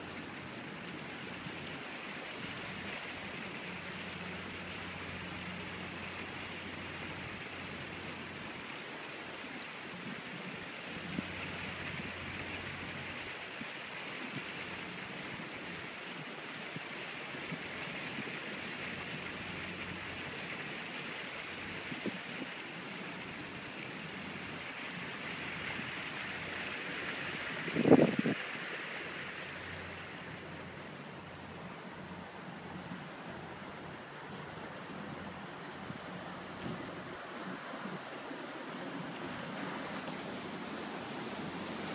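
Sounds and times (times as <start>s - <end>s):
water rushing along steel hull: 0.0s - 41.9s.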